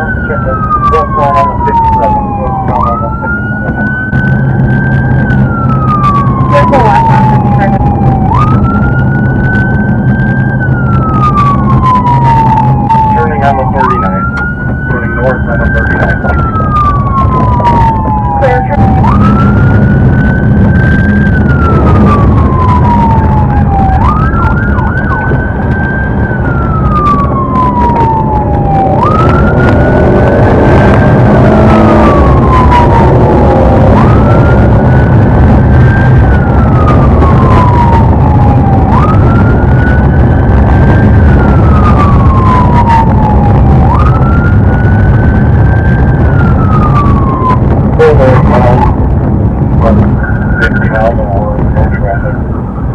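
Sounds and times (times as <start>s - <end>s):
car engine and road noise: 0.0s - 52.9s
police siren wailing: 0.0s - 52.9s.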